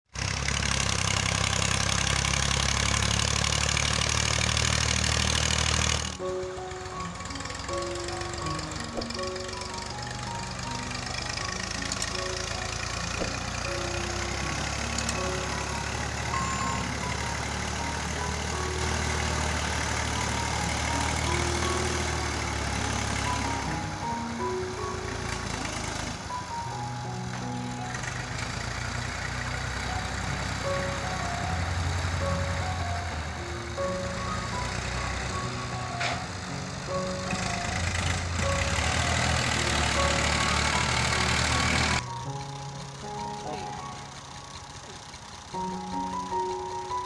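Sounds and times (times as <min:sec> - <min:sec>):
tractor diesel engine running: 0:00.1 - 0:47.0.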